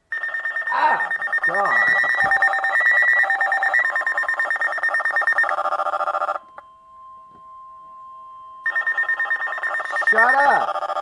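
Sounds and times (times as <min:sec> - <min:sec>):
faint steady warning tone: 0:00.0 - 0:11.0
rapid pulsing electronic beep: 0:00.1 - 0:11.0.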